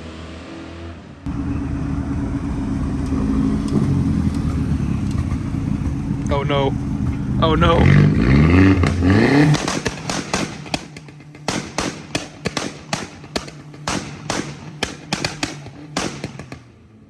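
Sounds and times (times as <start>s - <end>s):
low engine tone: 0.0s - 17.0s
car exhaust popping and crackling: 1.3s - 17.0s.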